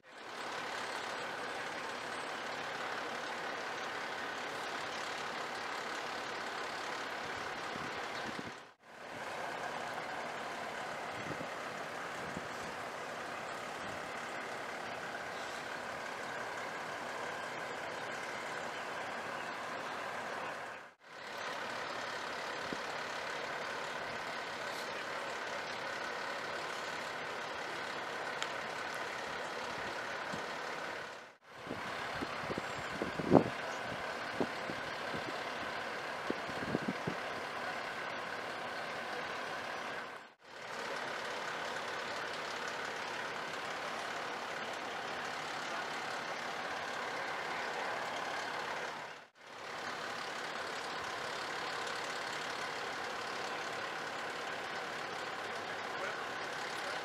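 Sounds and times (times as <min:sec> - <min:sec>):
vehicle engines and road traffic: 0:00.0 - 0:57.0.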